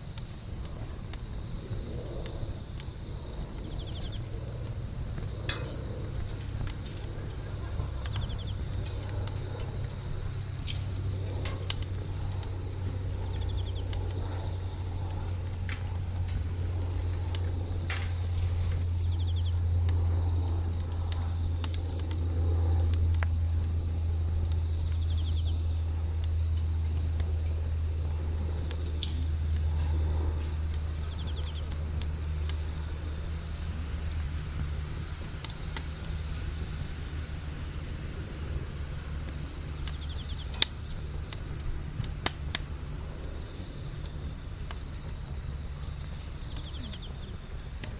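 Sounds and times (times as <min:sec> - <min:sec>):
campfire crackling and popping: 0:00.0 - 0:47.9
crickets chirping: 0:00.0 - 0:47.9.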